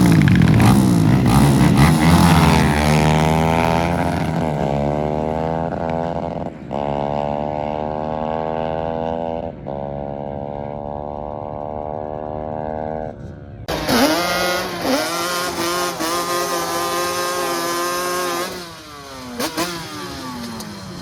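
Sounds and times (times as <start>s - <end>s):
motorcycle accelerating hard: 0.0s - 21.0s.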